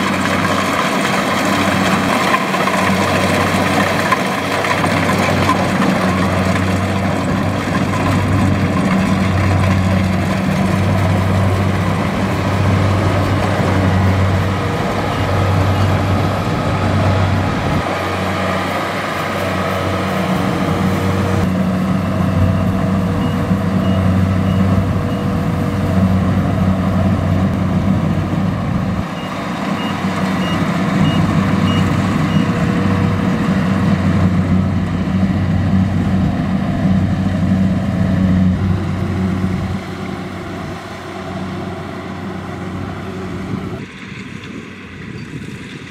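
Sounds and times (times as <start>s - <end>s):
combine harvester engine droning: 0.0s - 45.9s.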